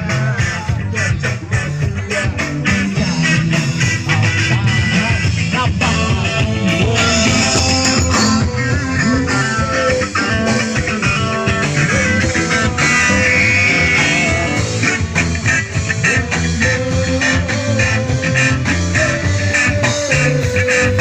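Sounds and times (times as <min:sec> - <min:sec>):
bass guitar: 0:00.0 - 0:21.0
electric guitars: 0:00.0 - 0:21.0
live rock band playing: 0:00.0 - 0:21.0.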